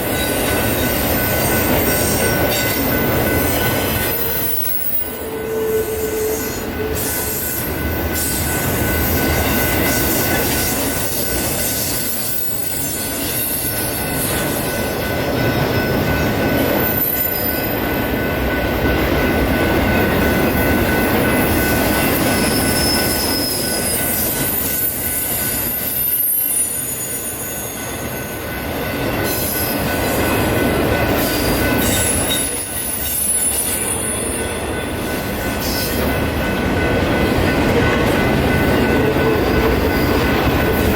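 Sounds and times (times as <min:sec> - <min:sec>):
train wheels squealing: 0:00.0 - 0:18.2, 0:19.7 - 0:40.9
train wheels rumbling on rails: 0:00.0 - 0:40.9.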